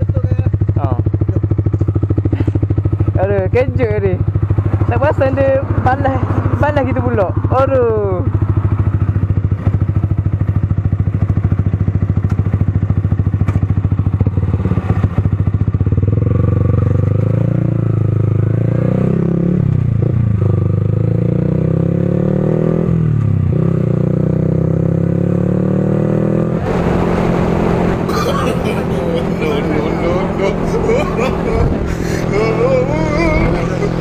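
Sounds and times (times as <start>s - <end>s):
motorcycle engine idling and accelerating: 0.0s - 34.0s.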